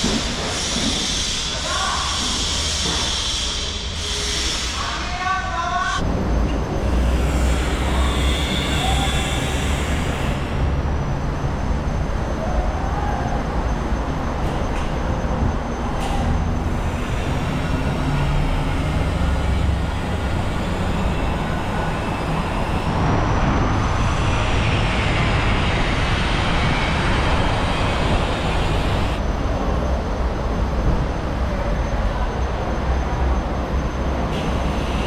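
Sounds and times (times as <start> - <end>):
vehicle traffic rumble: 6.0 - 35.0.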